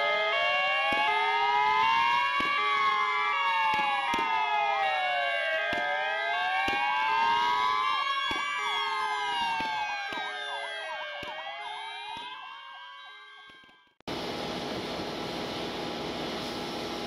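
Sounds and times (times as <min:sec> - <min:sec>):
fire engine sirens wailing: 0:00.0 - 0:16.8.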